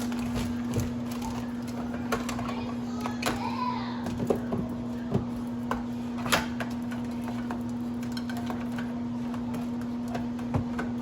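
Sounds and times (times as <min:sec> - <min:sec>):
groceries and packaging knocking: 0:00.0 - 0:11.0.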